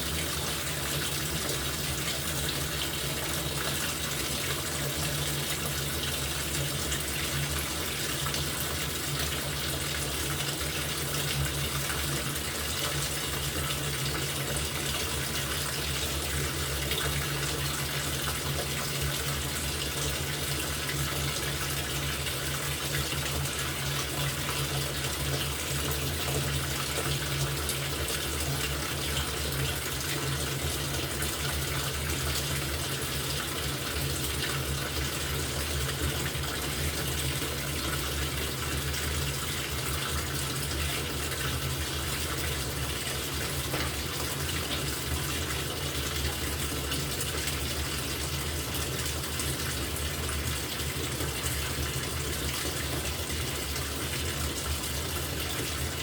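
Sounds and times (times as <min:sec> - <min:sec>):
water rushing into washing machine: 0:00.0 - 0:56.0.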